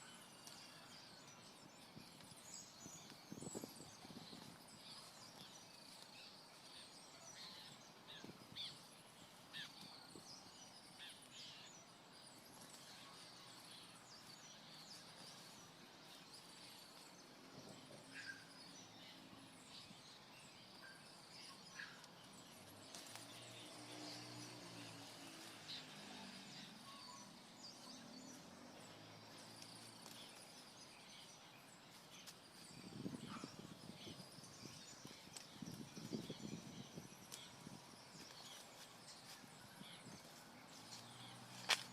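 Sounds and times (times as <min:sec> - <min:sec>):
rustle: 0:00.0 - 0:41.9.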